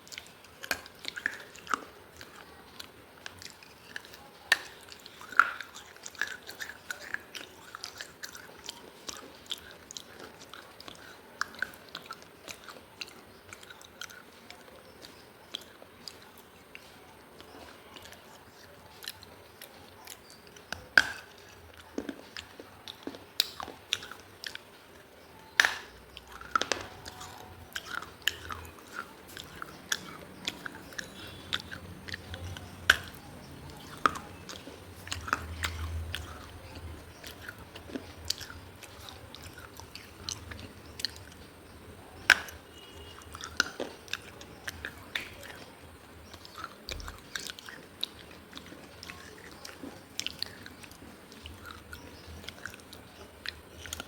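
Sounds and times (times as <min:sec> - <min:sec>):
chewing crunchy clay pieces: 0:00.0 - 0:54.0.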